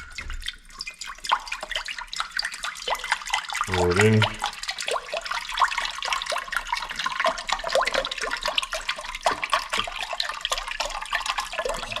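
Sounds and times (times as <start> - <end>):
liquid pouring into a pot: 0.0 - 12.0
splashing and bubbling: 0.0 - 12.0.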